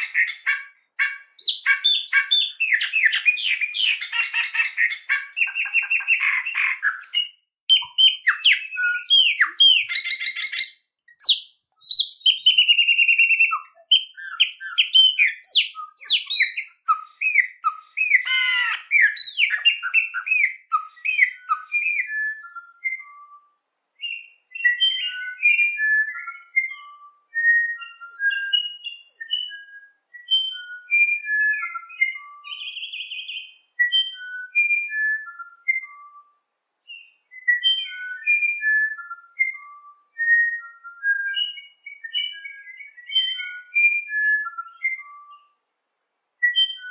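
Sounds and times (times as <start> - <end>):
songbird singing: 0.0 - 45.7, 46.4 - 46.9.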